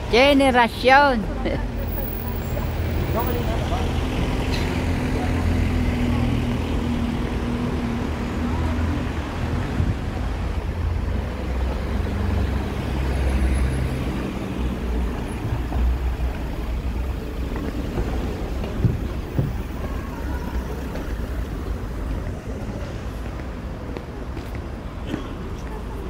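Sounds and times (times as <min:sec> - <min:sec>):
cars running past: 0:00.7 - 0:26.0.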